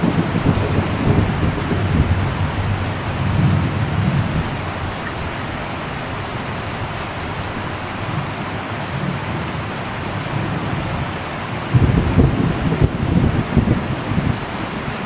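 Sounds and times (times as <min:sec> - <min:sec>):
thunder rumble: 0:00.0 - 0:08.4, 0:10.4 - 0:15.0
heavy rain on a metal roof: 0:00.0 - 0:15.0.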